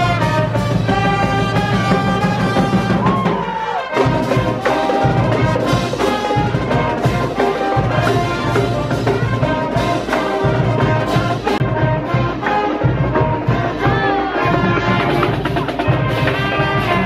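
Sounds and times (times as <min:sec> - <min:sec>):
marching brass band playing: 0:00.0 - 0:17.0.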